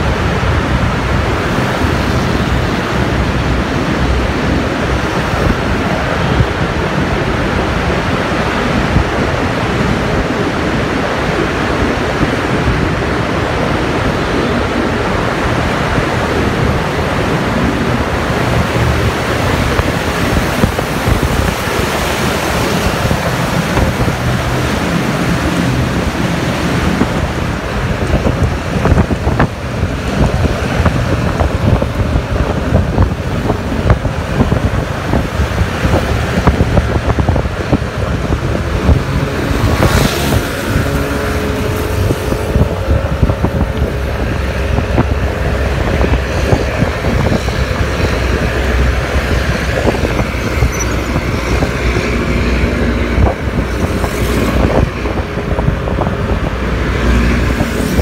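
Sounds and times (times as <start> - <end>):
road rumble: 0.0 - 58.0
wind buffeting microphone: 0.0 - 58.0.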